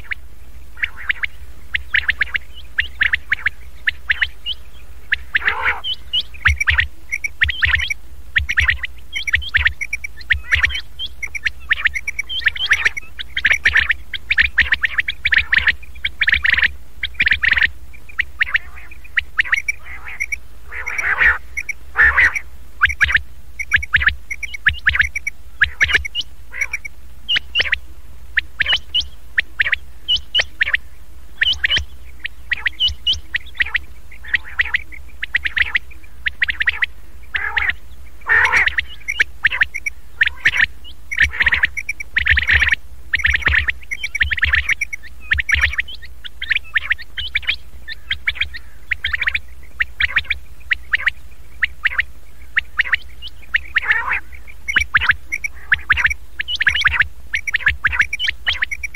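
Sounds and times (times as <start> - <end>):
quail calls: 0.0 - 0.2, 0.8 - 58.9
steady low hum: 0.0 - 58.9.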